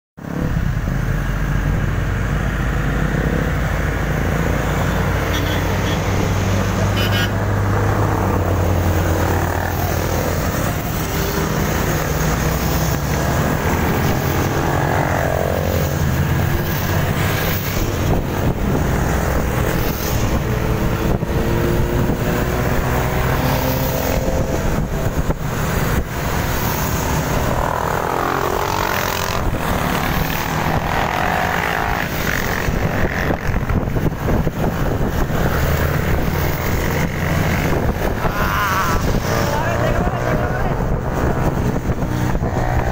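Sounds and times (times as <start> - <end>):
low rumble of traffic: 0.2 - 42.9
motorcycle engines: 0.2 - 42.9.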